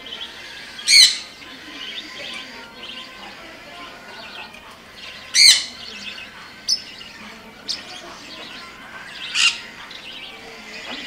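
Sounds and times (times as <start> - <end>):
bird squawks: 0.0 - 11.0
birds chattering and chirping: 0.0 - 11.0.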